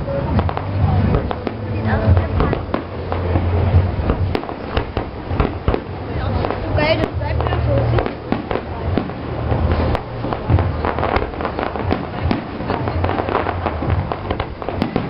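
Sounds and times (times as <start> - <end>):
fireworks bangs and crackles: 0.0 - 15.0
low steady hum: 0.0 - 15.0.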